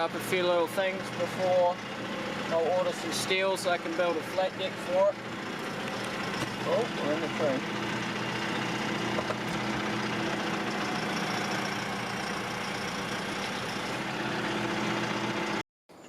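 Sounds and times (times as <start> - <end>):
vehicle engine idling: 0.0 - 15.6.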